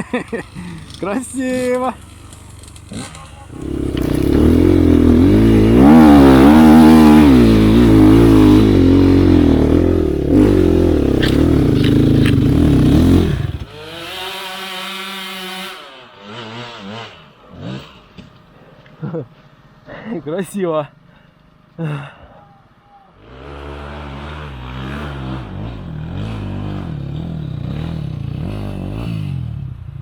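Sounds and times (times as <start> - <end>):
motorcycle engine revving: 0.0 - 18.4, 23.2 - 30.0.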